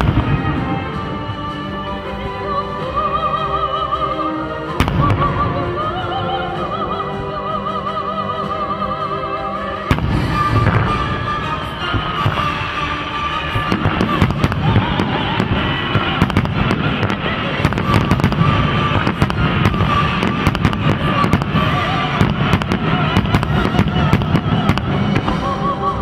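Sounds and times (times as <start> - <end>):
music with held notes: 0.0 - 26.0.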